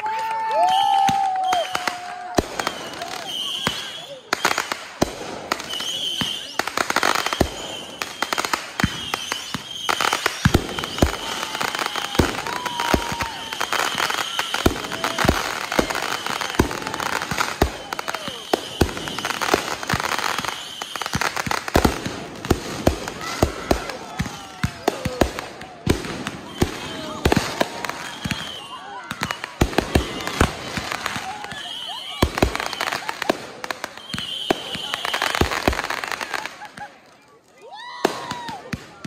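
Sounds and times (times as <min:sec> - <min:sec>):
fireworks crackle: 0:00.6 - 0:39.0.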